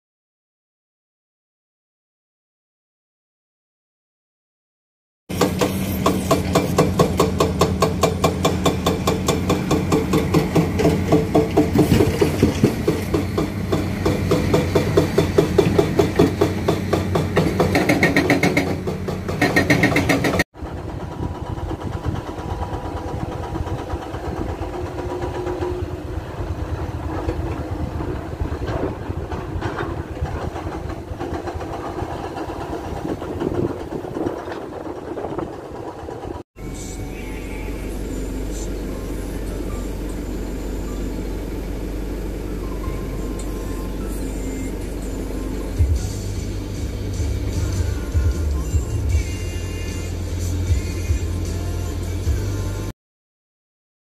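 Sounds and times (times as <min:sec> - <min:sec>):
excavator diesel engine running: 0:05.3 - 0:52.9.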